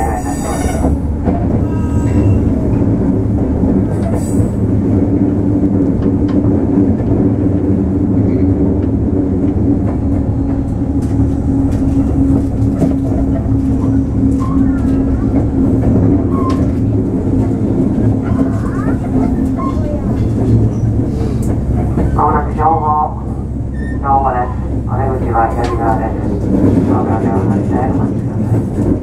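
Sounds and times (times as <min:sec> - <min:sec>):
train hum: 0:00.0 - 0:29.0
train wheels rumbling on track: 0:00.0 - 0:29.0.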